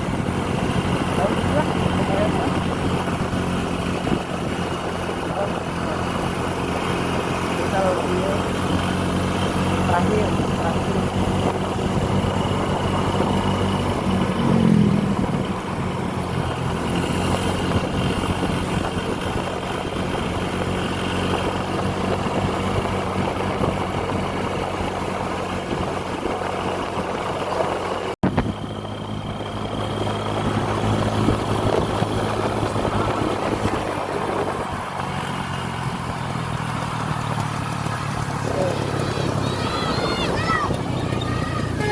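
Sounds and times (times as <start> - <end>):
traffic noise: 0.0 - 41.9
vehicle engines running: 0.0 - 41.9.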